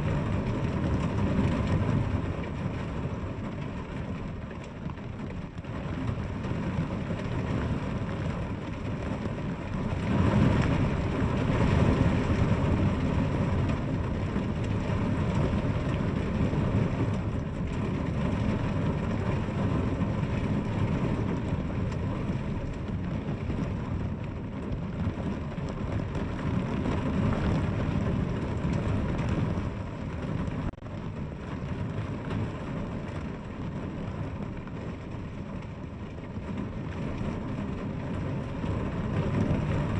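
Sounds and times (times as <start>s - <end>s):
deep low rumble: 0.0s - 39.9s
heavy rain: 0.0s - 39.9s.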